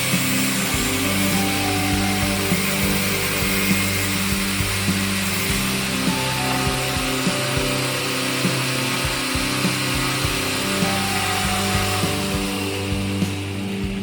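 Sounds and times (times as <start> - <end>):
background music with a beat: 0.0 - 14.0
power tool cutting: 0.0 - 14.0.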